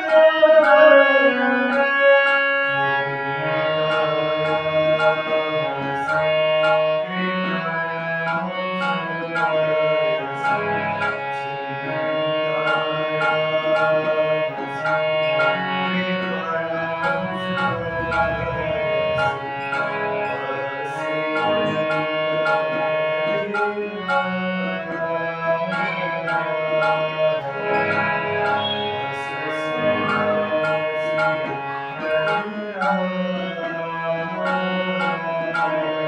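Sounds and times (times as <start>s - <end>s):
tabla rhythm: 0.0s - 33.7s, 34.3s - 36.0s
harmonium melody: 0.0s - 36.0s.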